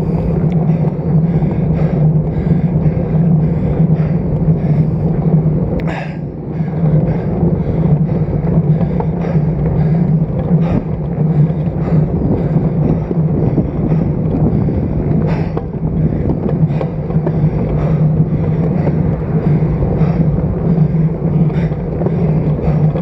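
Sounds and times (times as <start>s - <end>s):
low even hum: 0.0s - 23.0s
road and tyre noise: 0.0s - 23.0s
wind rushing over camera: 0.0s - 23.0s.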